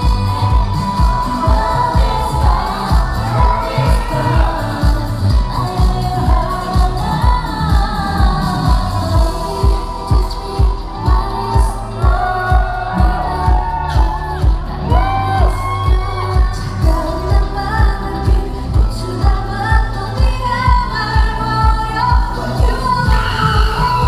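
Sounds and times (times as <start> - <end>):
kick drum: 0.0 - 24.0
pop dance track with female vocals: 0.0 - 24.0.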